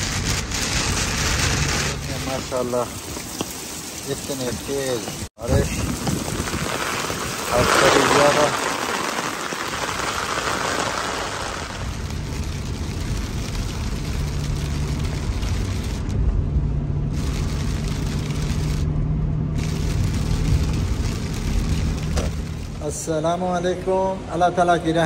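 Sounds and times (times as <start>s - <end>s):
heavy rain on pavement: 0.0s - 16.2s, 17.1s - 18.9s, 19.6s - 23.0s
car driving on wet road: 0.0s - 23.0s.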